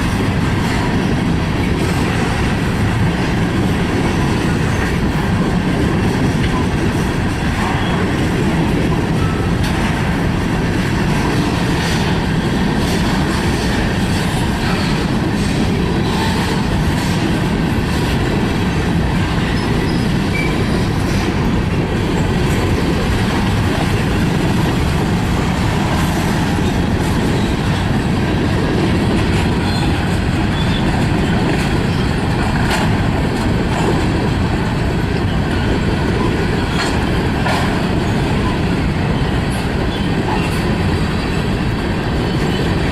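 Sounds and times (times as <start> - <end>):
freight train wheels rumbling on rail: 0.0 - 42.9
train wheels clicking and clacking: 0.0 - 42.9.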